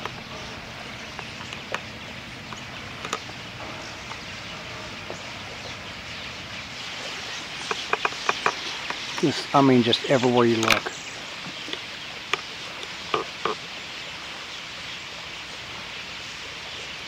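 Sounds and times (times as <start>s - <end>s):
flock of birds chattering: 0.0s - 17.0s.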